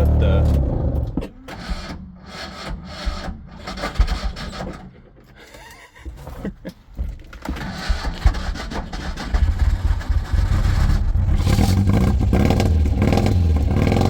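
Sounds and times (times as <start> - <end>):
engine cranking and sputtering: 0.0 - 14.0.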